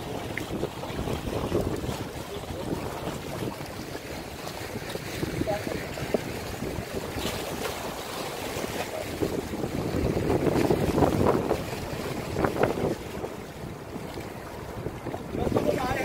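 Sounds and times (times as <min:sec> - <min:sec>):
waves splashing against rocks: 0:00.0 - 0:16.0
wind buffeting microphone: 0:00.0 - 0:16.0.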